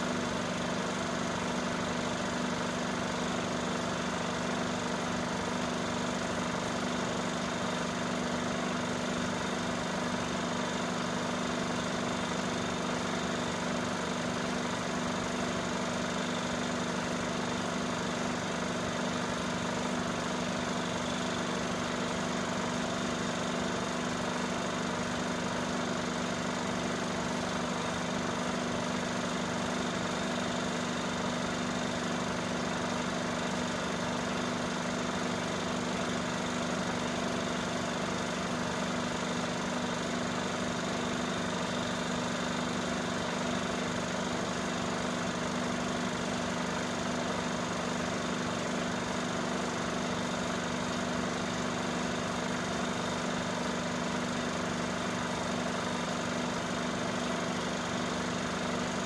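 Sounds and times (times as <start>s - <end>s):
film projector running: 0.0s - 59.0s.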